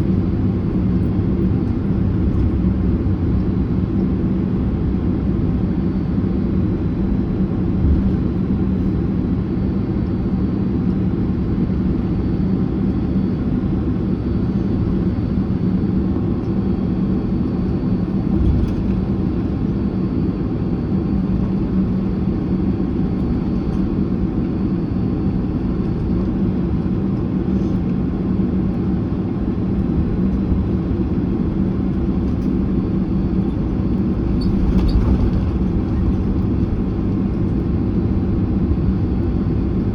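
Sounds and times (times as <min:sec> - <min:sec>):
aircraft engines idling in cabin: 0:00.0 - 0:39.9.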